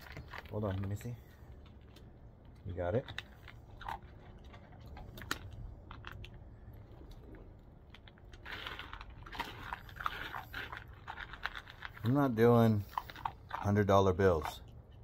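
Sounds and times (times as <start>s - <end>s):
puppy crunching dry kibble: 0.0s - 15.0s.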